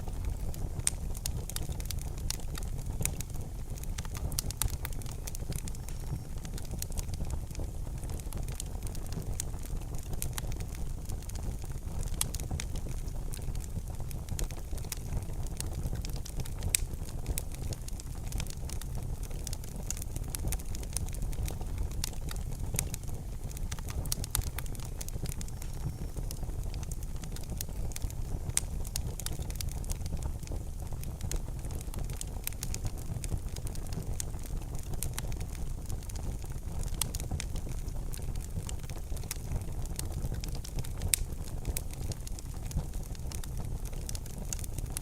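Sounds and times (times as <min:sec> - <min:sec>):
fire crackling in a fireplace: 0:00.0 - 0:45.0.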